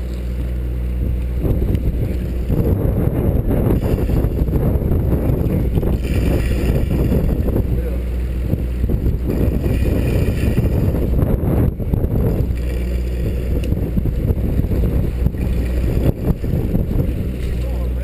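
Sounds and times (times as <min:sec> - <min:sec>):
boat engine droning: 0:00.0 - 0:18.0
water sloshing against hull: 0:00.0 - 0:18.0
wind buffeting microphone: 0:00.9 - 0:18.0.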